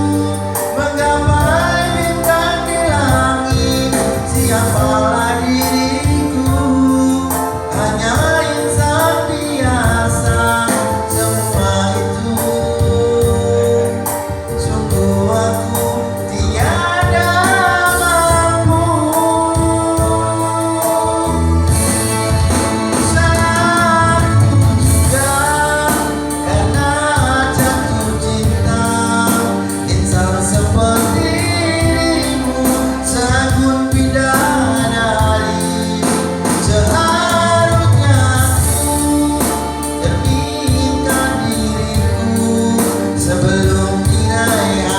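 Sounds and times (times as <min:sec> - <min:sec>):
musical accompaniment: 0:00.0 - 0:44.9
person singing: 0:00.0 - 0:44.9.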